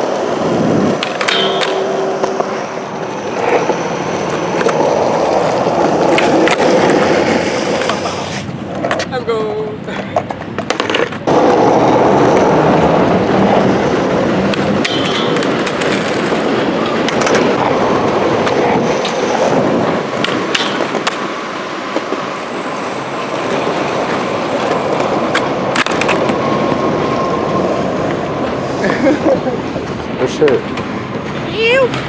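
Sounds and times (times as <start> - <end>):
skateboard clacks: 0.0 - 26.8
skateboard wheels rolling on concrete: 0.0 - 32.0.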